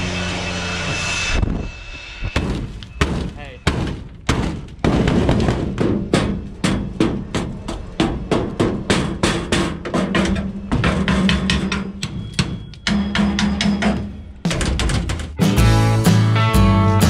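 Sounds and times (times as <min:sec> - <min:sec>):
metal bar striking chassis: 0:00.0 - 0:15.4.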